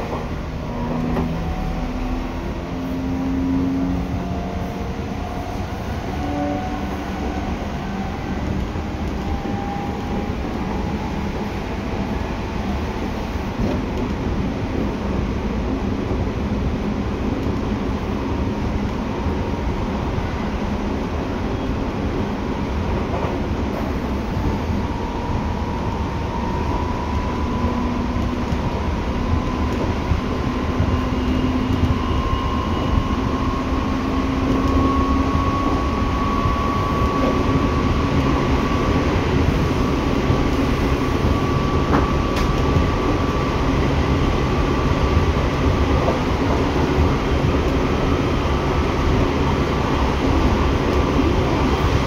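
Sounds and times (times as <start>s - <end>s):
train inverter and motor whine: 0.0s - 52.0s
wheels rumbling on track: 0.0s - 52.0s.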